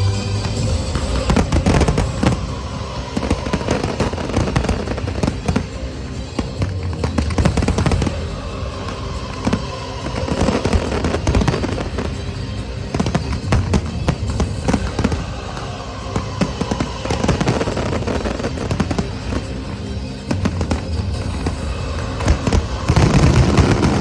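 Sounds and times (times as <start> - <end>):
fireworks bursting: 0.0 - 24.0
music playing: 0.0 - 24.0.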